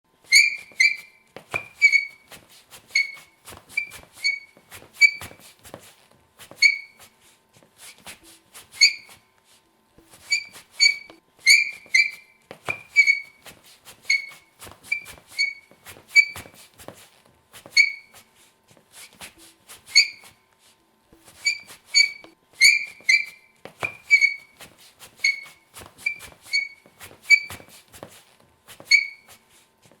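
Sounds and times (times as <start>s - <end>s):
sneakers squeaking on floor: 0.2s - 7.2s, 7.8s - 9.3s, 10.0s - 18.3s, 19.0s - 20.4s, 21.2s - 30.0s
light footstep taps: 0.6s - 30.0s.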